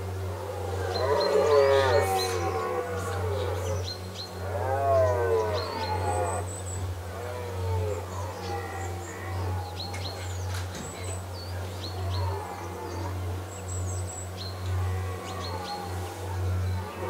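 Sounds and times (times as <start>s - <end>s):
small birds chirping: 0.0s - 17.0s
steady low hum: 0.0s - 17.0s
deer stag roaring: 0.1s - 10.5s, 11.8s - 13.5s, 14.6s - 17.0s.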